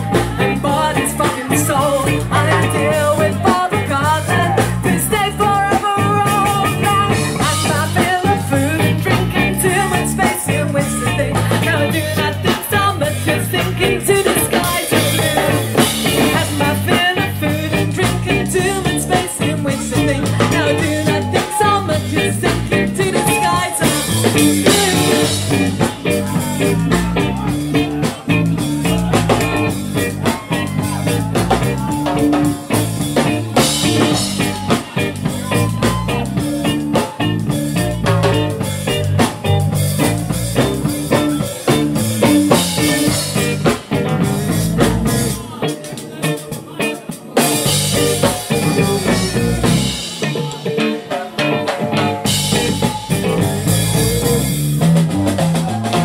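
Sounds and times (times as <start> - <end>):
ska-punk band playing live: 0.0 - 56.0.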